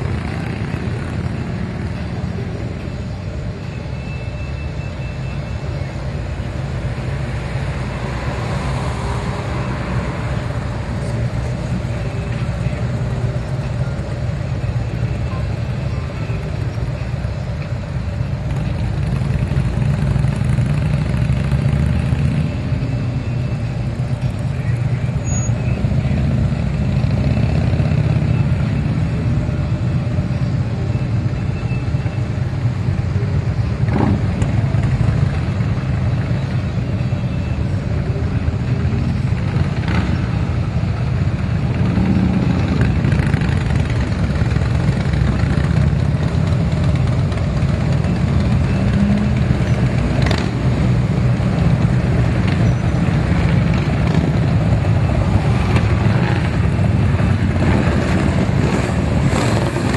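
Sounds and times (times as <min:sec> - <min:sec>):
car engines passing: 0:00.0 - 0:59.9
motorcycle engines rumbling: 0:00.0 - 0:59.9.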